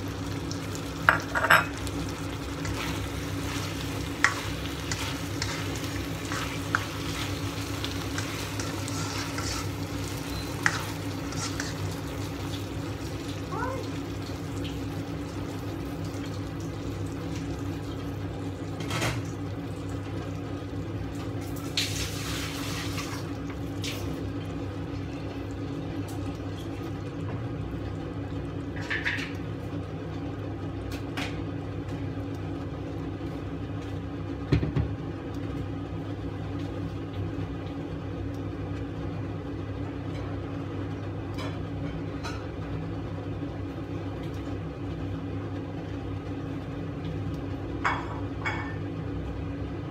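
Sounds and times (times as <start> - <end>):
steady hum with hiss: 0.0 - 49.9.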